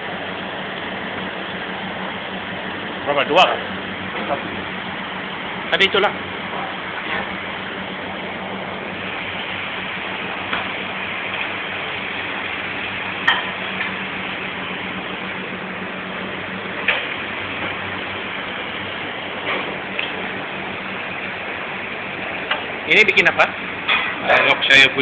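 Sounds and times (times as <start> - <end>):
kitchen ventilation rushing: 0.0 - 25.0.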